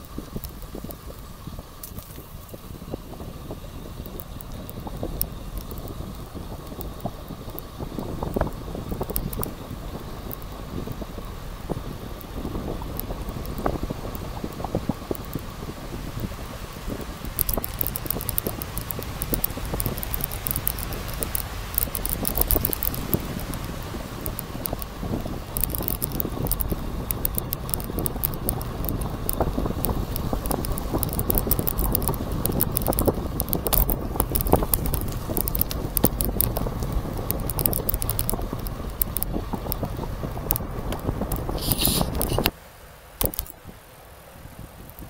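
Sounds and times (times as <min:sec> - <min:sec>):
bicycle rattling and clicking: 0:00.0 - 0:42.5, 0:43.2 - 0:43.6
wind buffeting microphone: 0:00.0 - 0:42.6.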